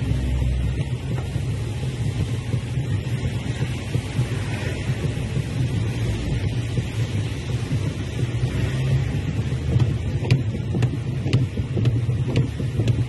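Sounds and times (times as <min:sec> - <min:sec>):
car tyres rumbling on wet road: 0:00.0 - 0:13.0
rain: 0:00.0 - 0:13.0.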